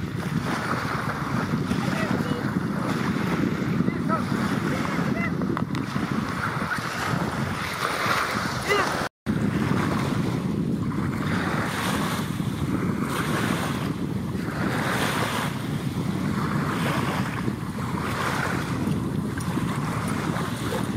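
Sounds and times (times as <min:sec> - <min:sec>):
small waves lapping: 0:00.0 - 0:20.9
wind buffeting microphone: 0:00.0 - 0:20.9.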